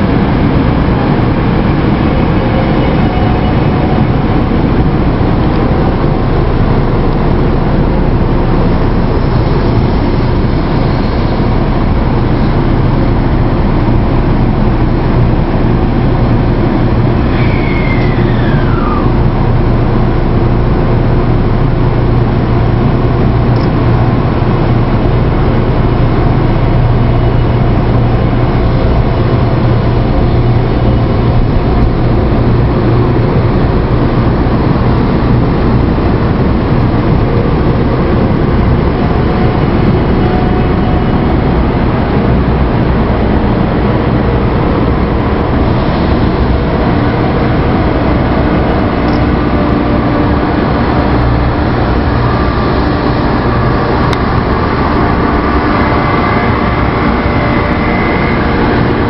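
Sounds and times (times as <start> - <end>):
train rumbling over crossing: 0.0 - 59.0.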